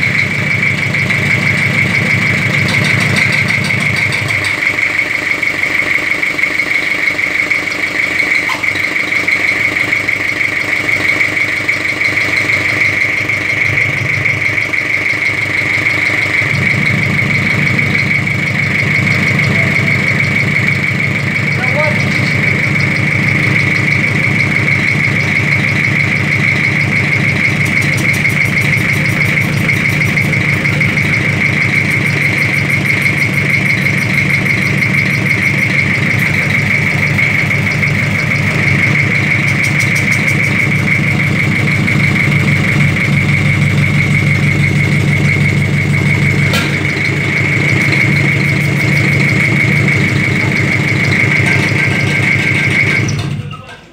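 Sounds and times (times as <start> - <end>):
high whine: 0.0 - 53.4
diesel engine idling clatter: 0.0 - 53.9.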